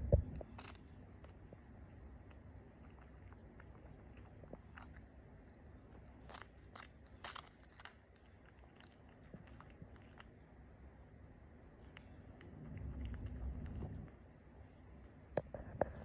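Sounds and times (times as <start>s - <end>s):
cat crunching cracker: 0.4s - 11.0s, 11.6s - 13.9s.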